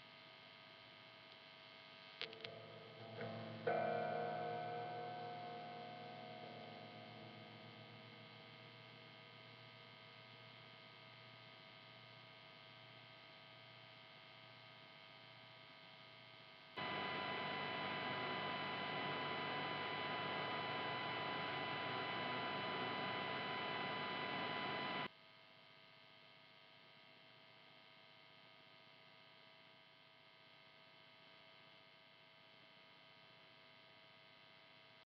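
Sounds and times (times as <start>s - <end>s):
electric guitar mains hum and buzz: 0.0s - 35.0s.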